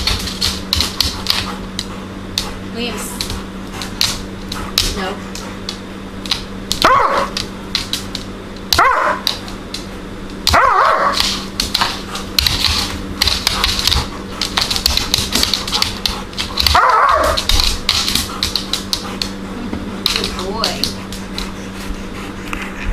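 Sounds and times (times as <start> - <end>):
dog claws skittering on floor: 0.0 - 22.8.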